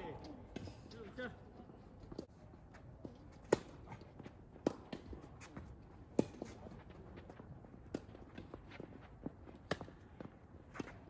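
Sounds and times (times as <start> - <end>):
footsteps on a court: 0.1 - 11.0.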